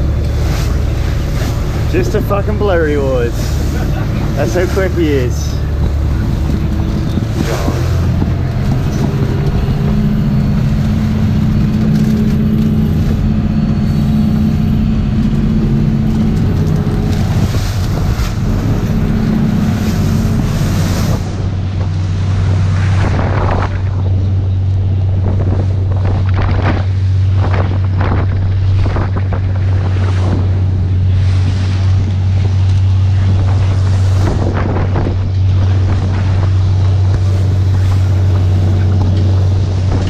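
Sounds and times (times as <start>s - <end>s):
boat engine running: 0.0s - 40.0s
water rushing past hull: 0.0s - 40.0s
wind buffeting microphone: 0.0s - 40.0s.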